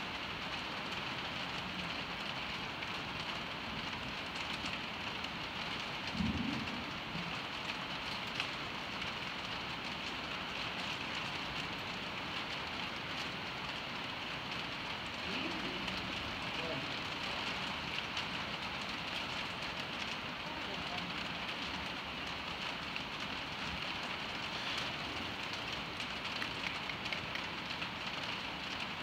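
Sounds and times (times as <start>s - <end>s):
rain on a metal roof: 0.0s - 29.0s.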